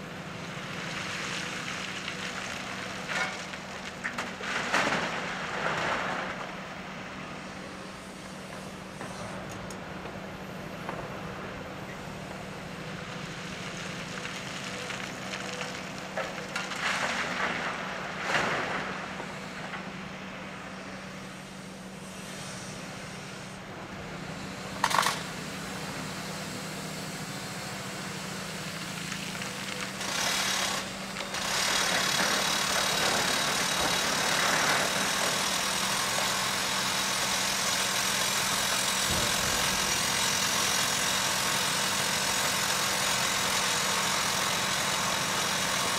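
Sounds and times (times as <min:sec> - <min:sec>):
excavator engine and hydraulics: 0:00.0 - 0:45.9.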